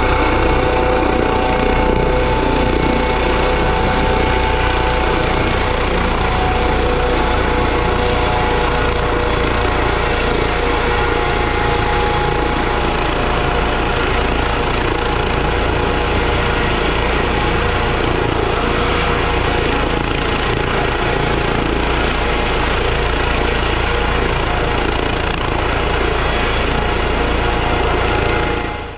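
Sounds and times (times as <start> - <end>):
helicopter rotor and turbine: 0.0 - 28.9.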